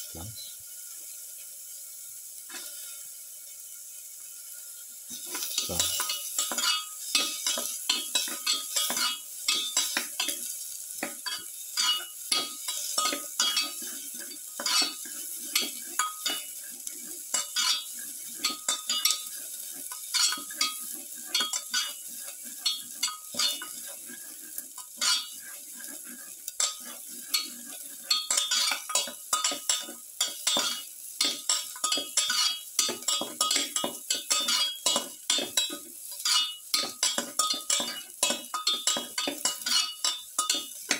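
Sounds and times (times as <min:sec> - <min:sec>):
garlic and onions sizzling in oil: 0:00.0 - 0:40.9
spatula scraping a pan: 0:05.1 - 0:40.9.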